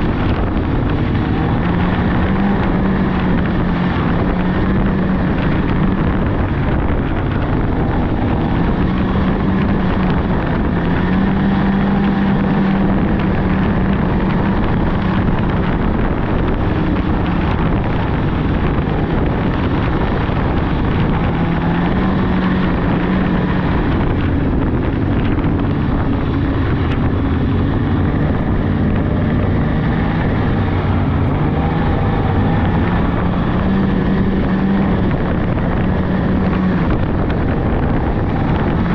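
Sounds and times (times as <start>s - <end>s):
snowmobile engine running: 0.0s - 38.9s
wind buffeting microphone: 0.0s - 38.9s.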